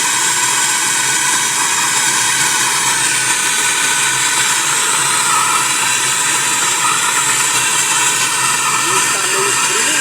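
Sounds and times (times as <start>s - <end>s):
blowtorch flame hissing: 0.0s - 10.0s.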